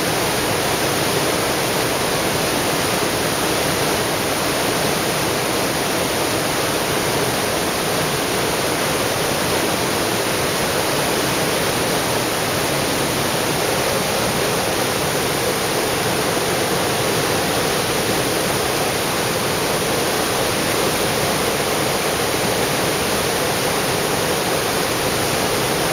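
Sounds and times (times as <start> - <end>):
flood water rushing over a spillway: 0.0 - 25.9.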